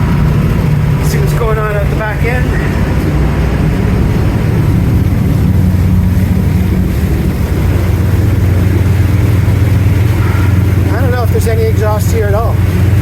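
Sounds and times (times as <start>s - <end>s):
marine diesel engine droning: 0.0s - 13.0s.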